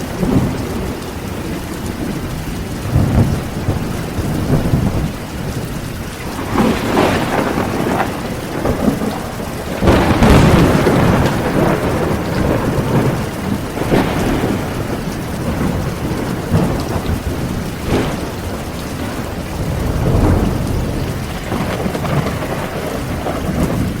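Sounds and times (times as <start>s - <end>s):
heavy rain falling: 0.0s - 24.0s
rolling thunder: 0.0s - 24.0s.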